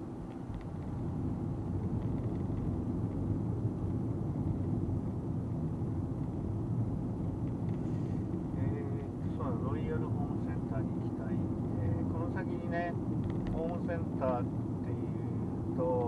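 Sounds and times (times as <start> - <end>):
road and tyre rumble in car: 0.0 - 16.0.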